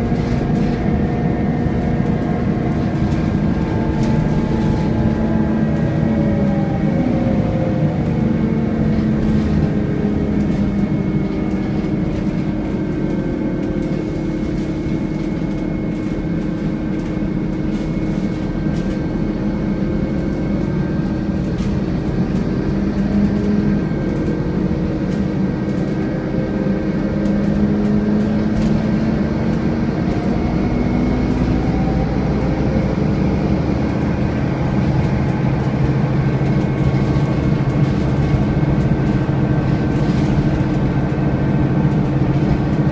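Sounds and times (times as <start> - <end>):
bus engine running: 0.0 - 42.9.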